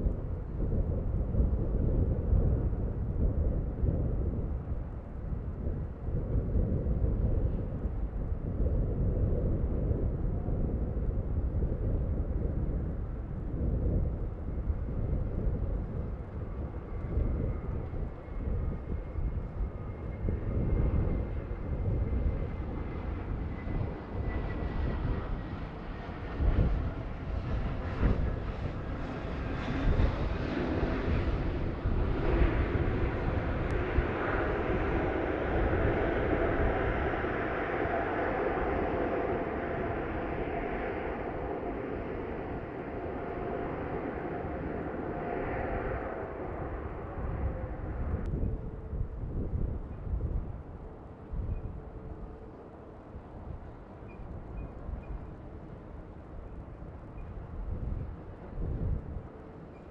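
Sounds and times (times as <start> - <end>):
faint whine lowering in pitch: 0.0 - 59.9
jet airliner engines: 0.0 - 59.9
wind buffeting microphone: 0.0 - 59.9.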